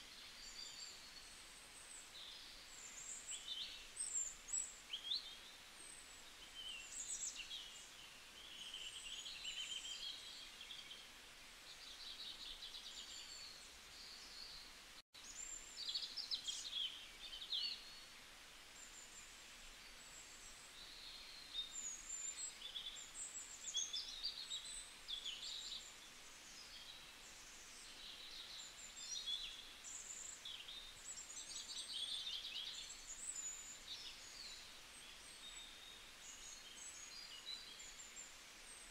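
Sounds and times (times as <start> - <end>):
small birds chirping and trilling: 0.0 - 18.2, 18.8 - 38.9
light hiss: 0.0 - 38.9.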